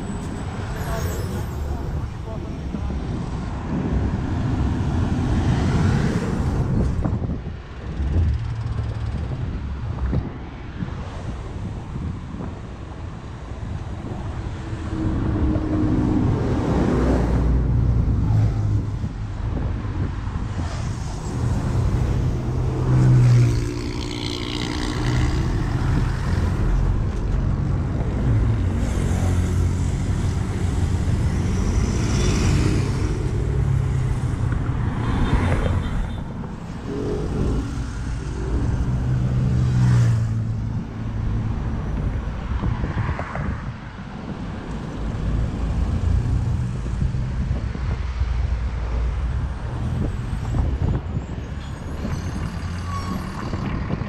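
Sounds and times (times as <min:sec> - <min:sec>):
cars passing: 0:00.0 - 0:54.0
diesel buses running and moving off: 0:00.0 - 0:54.0.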